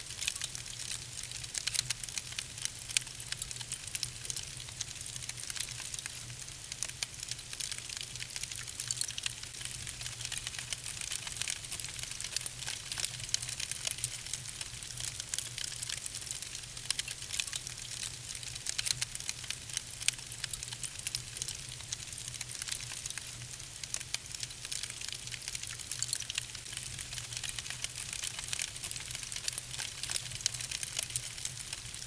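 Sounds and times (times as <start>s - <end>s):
logs crackling and popping: 0.1s - 32.0s.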